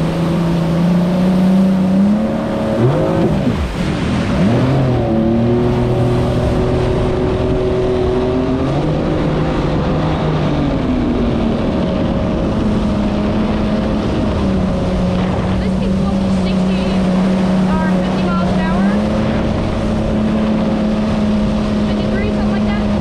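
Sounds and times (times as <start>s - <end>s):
jet ski engine running: 0.0s - 23.0s
rushing water: 0.0s - 23.0s
wind: 0.0s - 23.0s.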